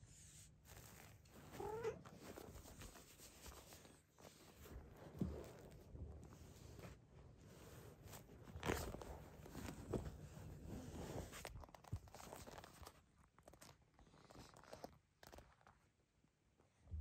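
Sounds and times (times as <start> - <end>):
faint rustling: 0.1 - 16.0.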